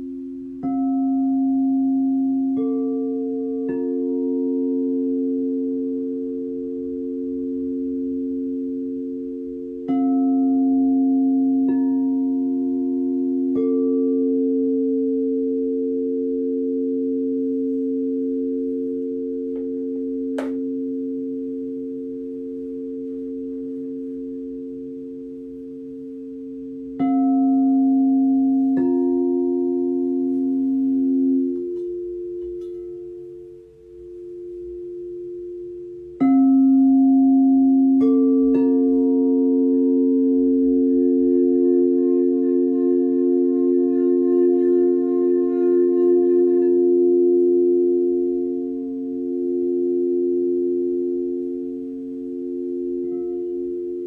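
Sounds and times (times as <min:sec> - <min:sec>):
singing bowls ringing: 0:00.0 - 0:54.0.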